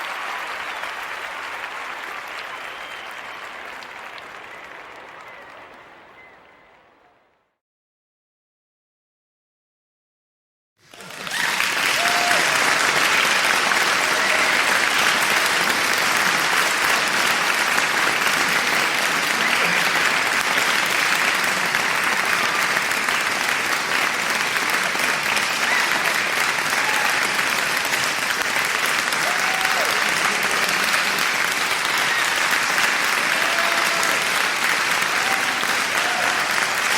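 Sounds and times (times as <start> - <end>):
crowd applauding: 0.0 - 7.5, 10.8 - 36.9.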